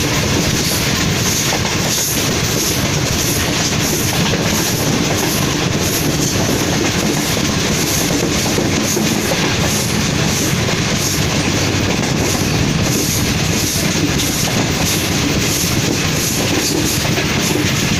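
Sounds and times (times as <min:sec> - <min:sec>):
train wheels on rails: 0:00.0 - 0:17.9.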